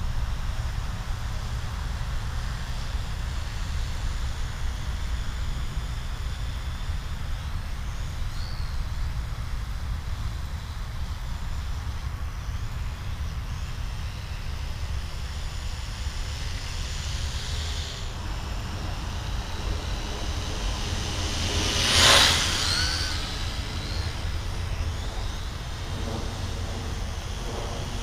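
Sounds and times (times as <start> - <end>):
low outdoor rumble: 0.0 - 28.0
quadcopter propeller buzz: 0.0 - 28.0.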